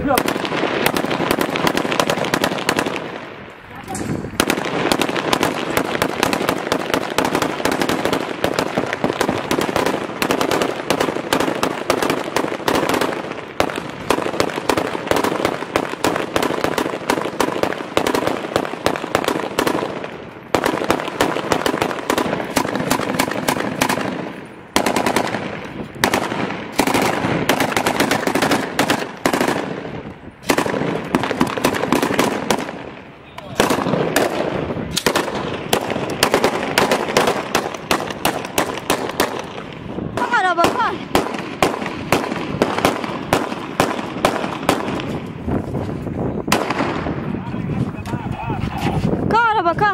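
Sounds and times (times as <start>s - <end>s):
automatic gunfire bursts: 0.0s - 3.1s, 4.4s - 32.8s, 33.6s - 45.0s.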